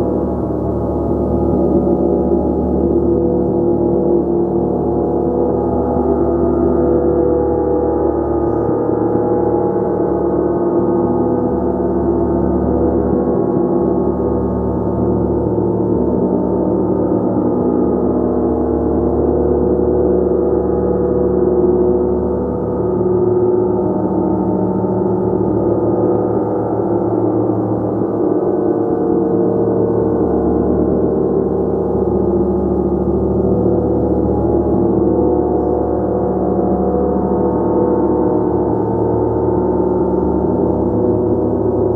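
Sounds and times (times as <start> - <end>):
gong played continuously: 0.0 - 41.9.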